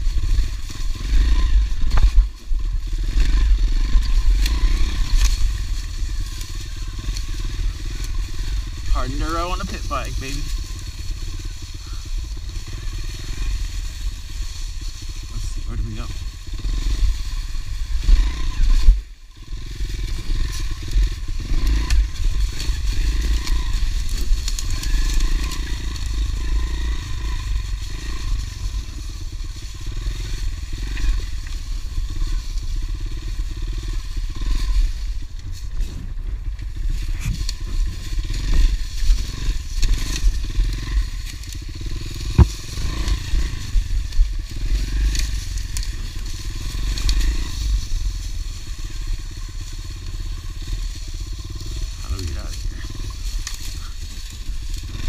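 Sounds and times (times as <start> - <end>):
leaves crunching under tyres: 0.0 - 55.0
motorbike engine running: 0.0 - 55.0.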